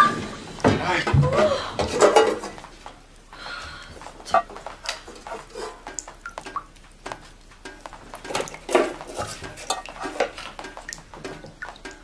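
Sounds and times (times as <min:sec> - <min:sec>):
metal pots clanking on floor: 0:00.0 - 0:02.6, 0:04.3 - 0:12.0.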